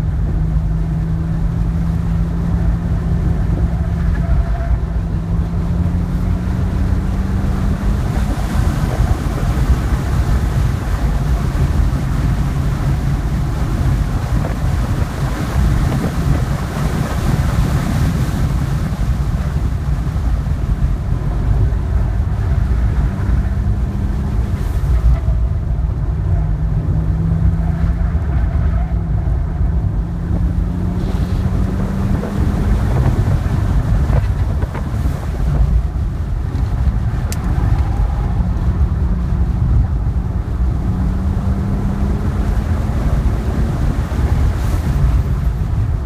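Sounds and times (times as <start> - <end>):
car engine accelerating: 0.0 - 46.0
wind and road noise: 0.0 - 46.0.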